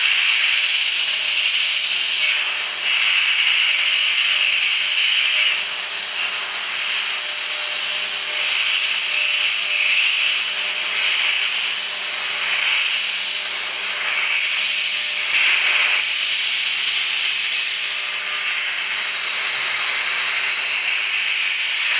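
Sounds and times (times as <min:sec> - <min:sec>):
milling machine cutting metal: 0:00.1 - 0:21.9.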